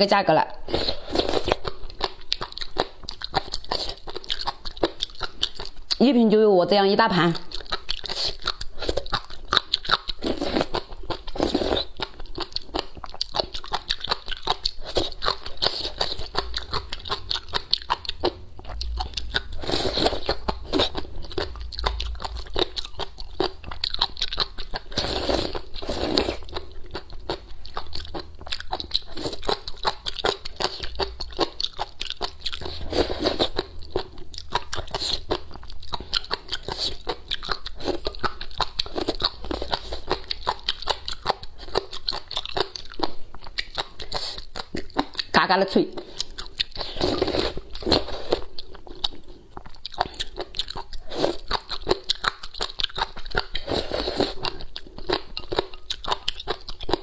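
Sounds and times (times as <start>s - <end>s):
person chewing crunchy food: 0.6s - 6.1s, 7.2s - 57.0s.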